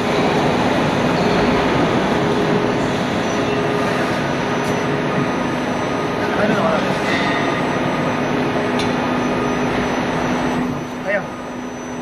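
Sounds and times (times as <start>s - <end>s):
roll forming machine running: 0.0s - 12.0s.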